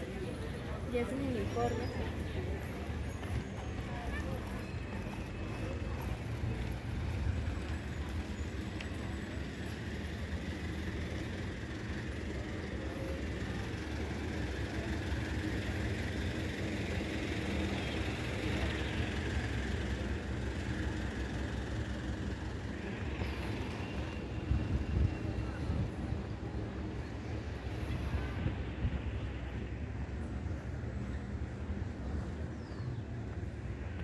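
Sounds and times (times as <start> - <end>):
rumble of passing cars and buses: 0.0 - 34.0.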